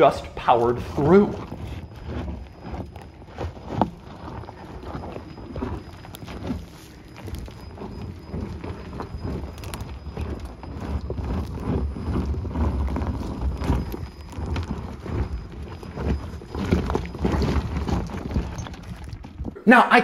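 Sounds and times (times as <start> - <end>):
tyres crunching over gravel: 0.0 - 20.0.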